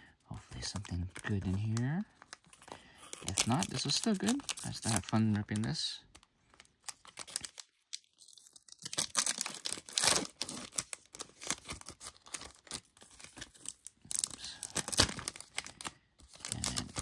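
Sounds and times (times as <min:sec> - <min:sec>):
wrapper tearing and crinkling: 0:00.8 - 0:17.0.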